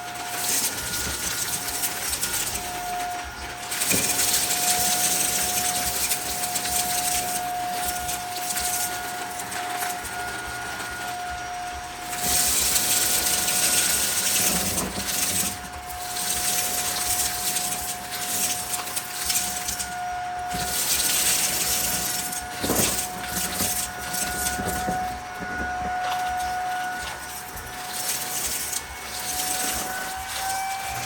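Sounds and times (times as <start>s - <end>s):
debris crackling in vacuum: 0.0s - 31.0s
vacuum cleaner running: 0.0s - 31.0s.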